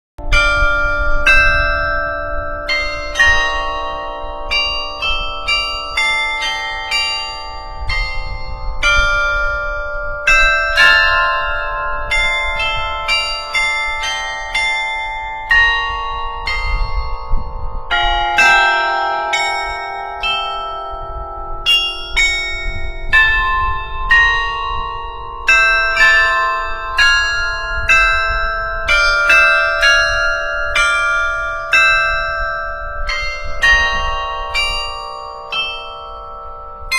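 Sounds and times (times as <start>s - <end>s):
tower bells playing slow tune: 0.2s - 36.9s.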